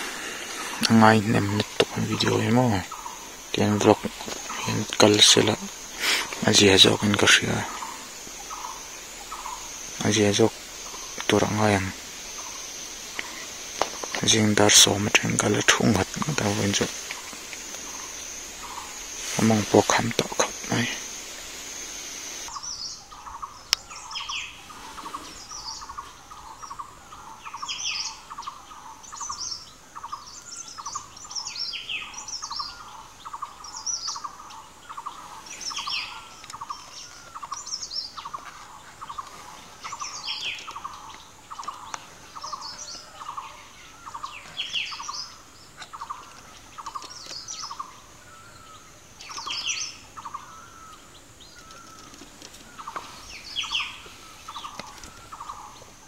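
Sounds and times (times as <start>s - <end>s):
higher bird calls: 0.0s - 56.0s.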